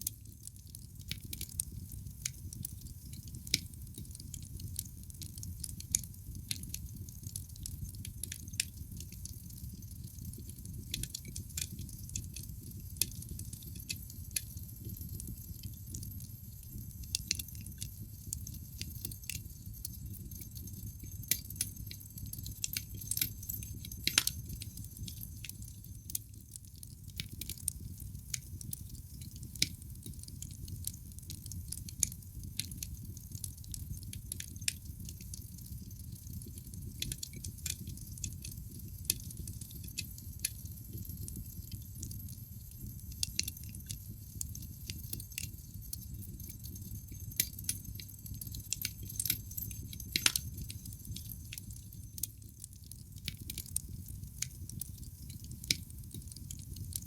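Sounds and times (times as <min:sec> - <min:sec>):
low rumble of burning logs: 0:00.0 - 0:57.0
wood fire crackling: 0:00.0 - 0:57.0.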